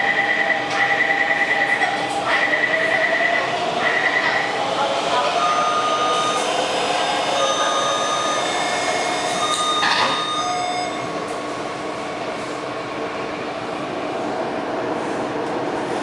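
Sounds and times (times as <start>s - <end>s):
train inverter whining: 0.0s - 14.8s
train running noise: 0.0s - 16.0s.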